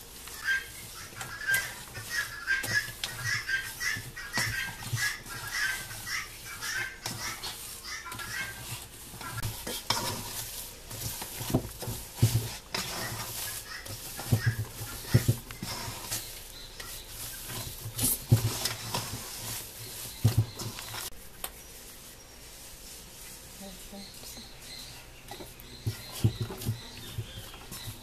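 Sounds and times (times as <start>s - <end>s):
dough rubbing against metal bowl: 0.0s - 28.0s.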